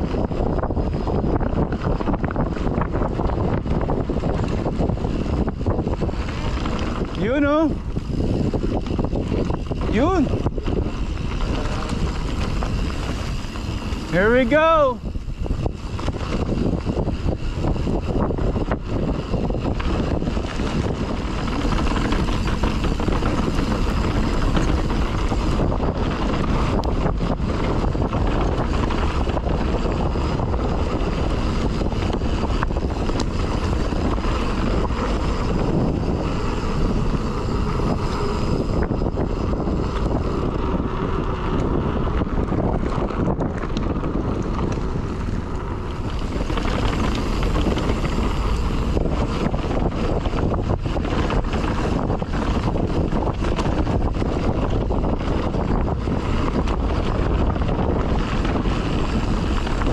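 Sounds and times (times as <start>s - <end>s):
bike knocking and rattling: 0.0s - 59.9s
bike tyres on dirt: 0.0s - 59.9s
wind buffeting microphone: 0.0s - 59.9s.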